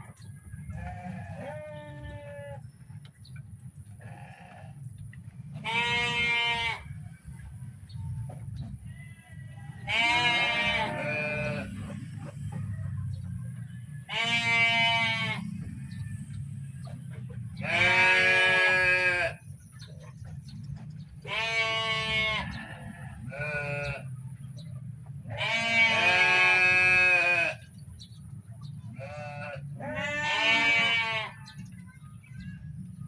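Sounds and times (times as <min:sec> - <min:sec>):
low background rumble: 0:00.0 - 0:33.0
farm animals bleating: 0:00.6 - 0:07.3, 0:08.3 - 0:19.9, 0:21.0 - 0:28.1, 0:28.8 - 0:31.8.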